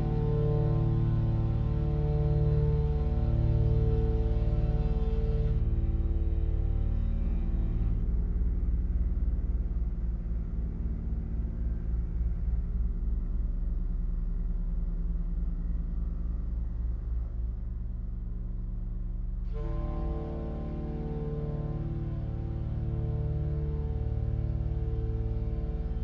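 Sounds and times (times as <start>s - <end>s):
low drone of held tones: 0.0s - 26.0s.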